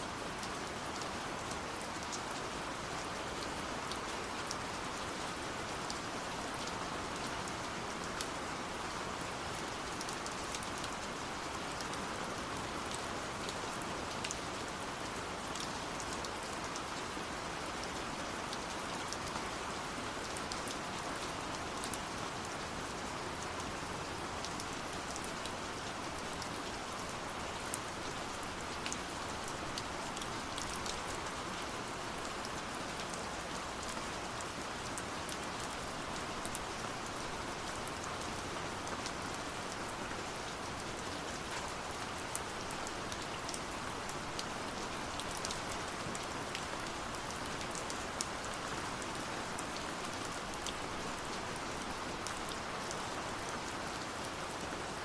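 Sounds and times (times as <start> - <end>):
gentle rain pattering: 0.0 - 55.0.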